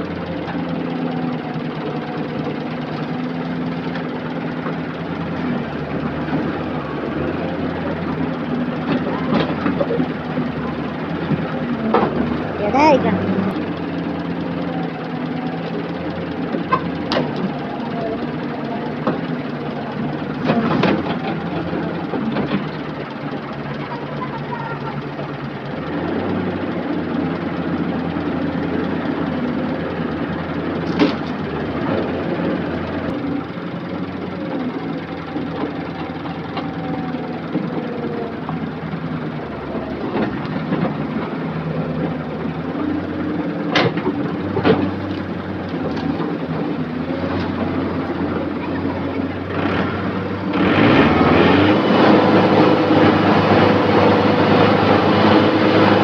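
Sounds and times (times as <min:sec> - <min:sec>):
diesel excavator engine running: 0:00.0 - 0:56.0.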